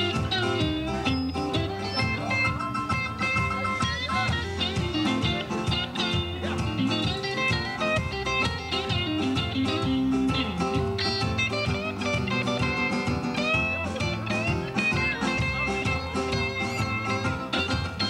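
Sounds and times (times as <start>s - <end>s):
lead guitar bending notes: 0.0s - 18.0s
live band playing upbeat music: 0.0s - 18.0s
upright bass: 0.0s - 18.0s.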